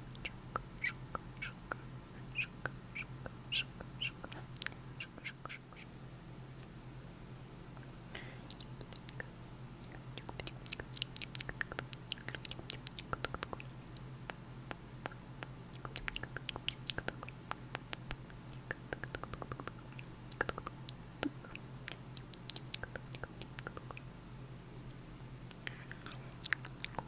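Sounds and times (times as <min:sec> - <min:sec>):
wet tongue clicks: 0:00.1 - 0:01.8, 0:02.4 - 0:05.8, 0:07.9 - 0:24.1, 0:25.4 - 0:27.0.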